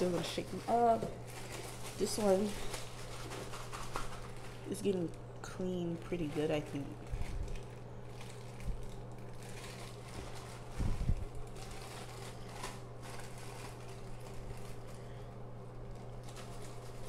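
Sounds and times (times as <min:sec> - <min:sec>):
plastic bag crinkling: 0:00.0 - 0:17.0
steady low hum: 0:00.0 - 0:17.0.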